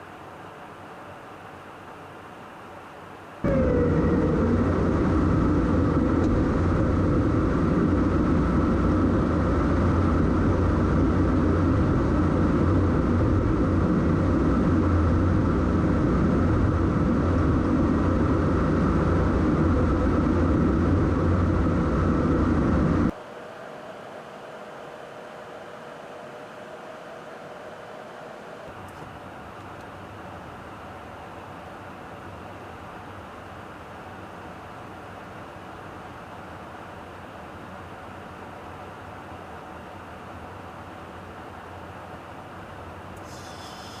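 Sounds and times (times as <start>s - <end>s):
jet aircraft roar with whine: 0.0s - 44.0s.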